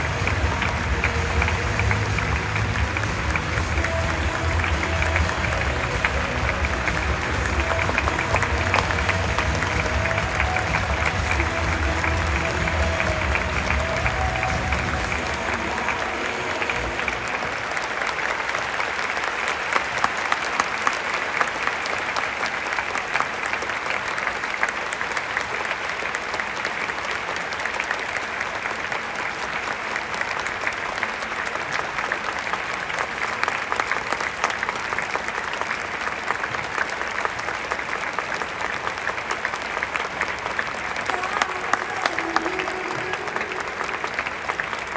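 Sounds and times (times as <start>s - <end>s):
crowd clapping: 0.0s - 44.9s.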